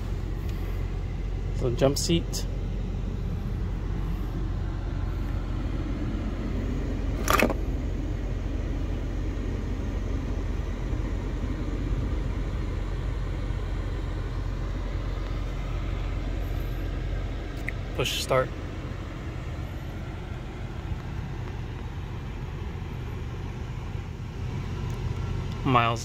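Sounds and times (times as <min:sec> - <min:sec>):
pickup truck idling: 0:00.0 - 0:26.0.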